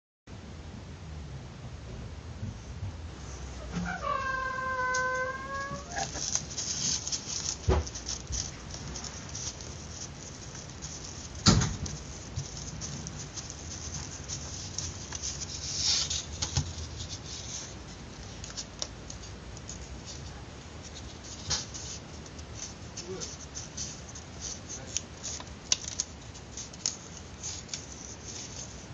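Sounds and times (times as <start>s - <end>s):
paper rustling and crinkling: 3.8s - 28.9s.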